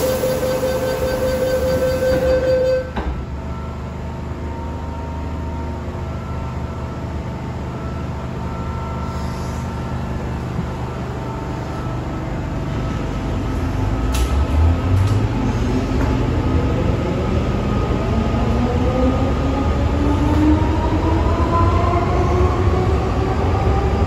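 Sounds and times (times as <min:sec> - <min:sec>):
train rumbling on rails: 0:00.0 - 0:24.0
train traction whine: 0:00.0 - 0:24.0.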